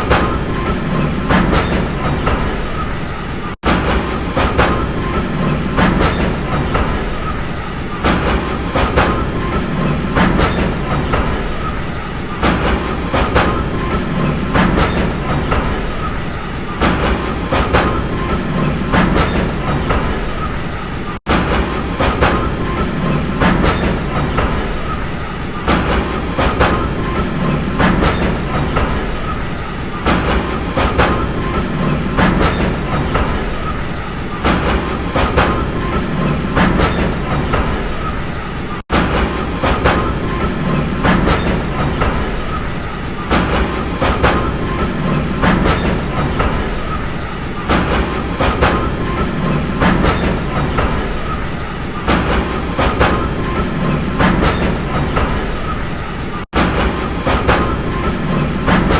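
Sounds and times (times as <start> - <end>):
train rumble: 0.0 - 58.9
train wheels clickety-clack: 0.0 - 58.9.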